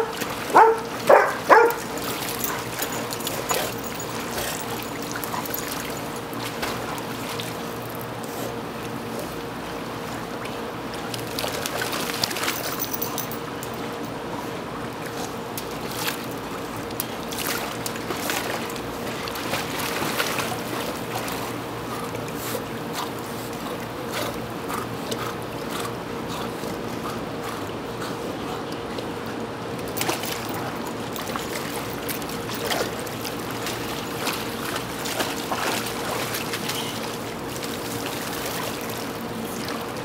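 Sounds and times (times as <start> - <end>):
dogs splashing in water: 0.0 - 40.0
steady hum: 0.0 - 40.0.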